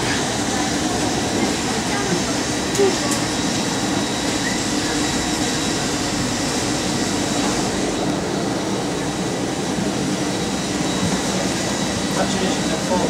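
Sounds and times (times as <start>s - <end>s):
airliner ventilation rushing hum: 0.0s - 13.0s.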